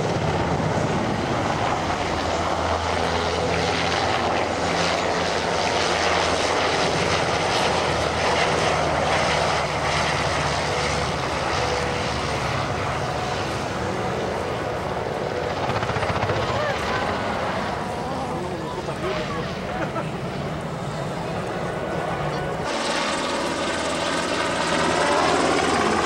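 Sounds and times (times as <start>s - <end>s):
helicopter flying: 0.0s - 26.0s.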